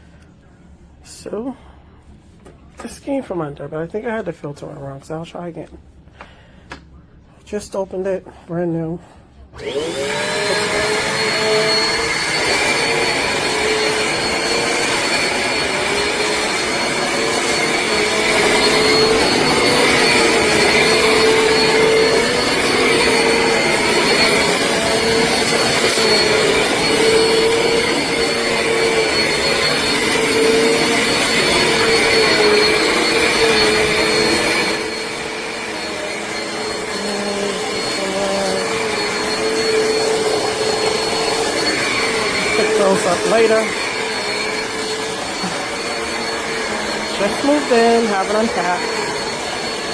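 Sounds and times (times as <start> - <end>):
vacuum cleaner motor whine: 9.6 - 49.9.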